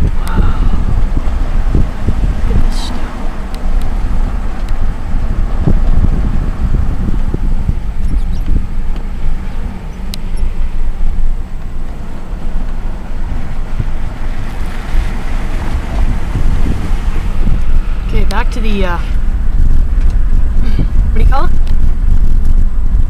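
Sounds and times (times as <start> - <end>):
road and engine rumble: 0.0 - 23.0
wind on microphone: 0.0 - 23.0.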